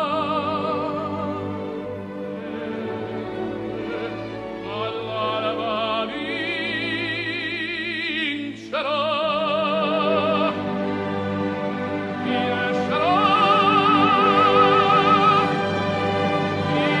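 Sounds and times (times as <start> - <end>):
operatic singing: 0.0 - 17.0
orchestral accompaniment: 0.0 - 17.0.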